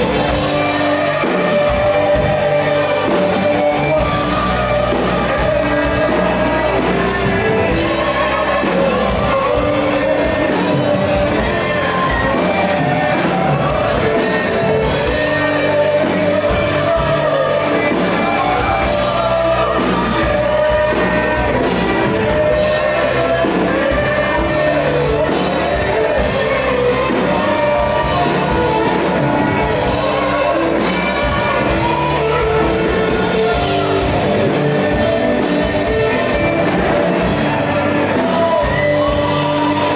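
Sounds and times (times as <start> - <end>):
rock band playing: 0.0 - 39.9
voices singing: 0.0 - 39.9.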